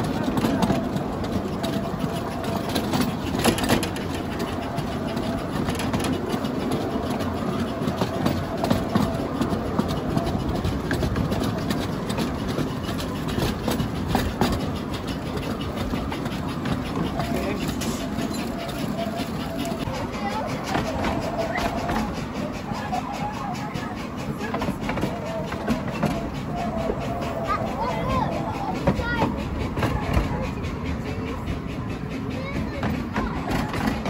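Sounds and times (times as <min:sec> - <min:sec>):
train rumbling along track: 0:00.0 - 0:34.0.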